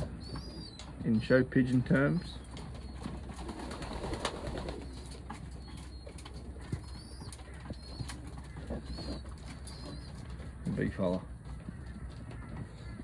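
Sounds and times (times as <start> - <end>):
pigeons cooing: 0.0 - 1.3, 2.0 - 13.0
birds tapping and scuffing: 0.0 - 13.0.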